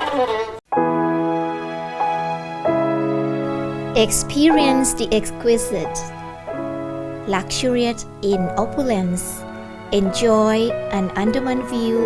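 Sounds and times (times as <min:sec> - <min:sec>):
sustained bowed string chords: 0:00.0 - 0:12.0.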